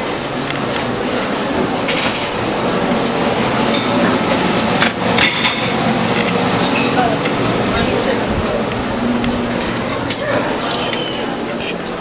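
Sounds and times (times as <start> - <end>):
dining hall room noise: 0.0 - 12.0.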